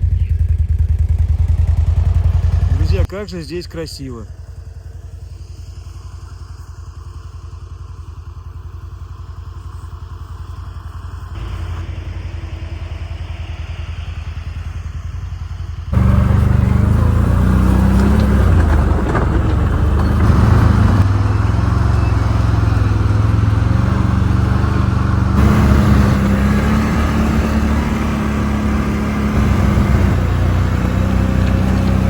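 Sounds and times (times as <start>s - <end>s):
quad engine running: 0.0s - 32.0s.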